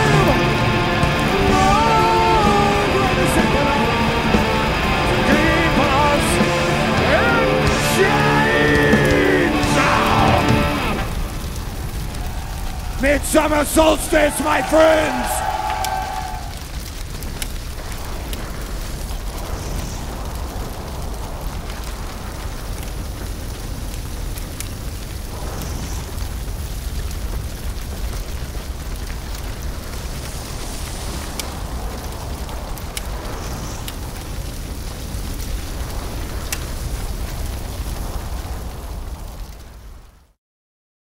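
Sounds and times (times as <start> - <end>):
bonfire burning with deep rumble: 0.0 - 40.4
fire crackles and pops: 0.0 - 40.4.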